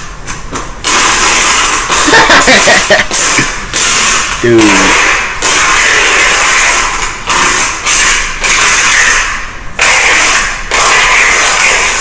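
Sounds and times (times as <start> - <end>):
duct tape ripping off roll: 0.0 - 12.0.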